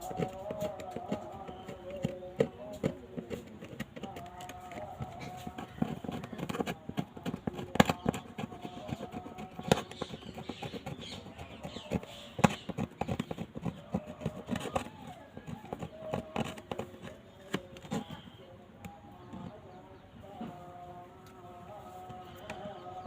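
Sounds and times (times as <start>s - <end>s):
hand tool scraping phone frame: 0.0s - 19.7s.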